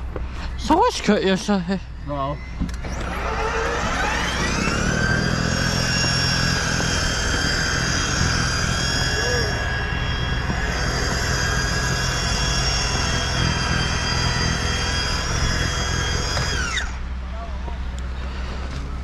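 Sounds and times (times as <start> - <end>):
engine running with high whine: 0.0 - 19.0.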